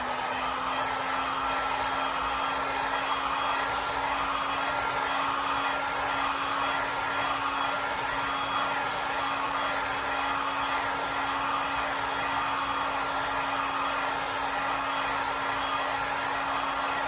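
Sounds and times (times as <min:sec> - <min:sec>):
hot-air blower rushing: 0:00.0 - 0:17.0.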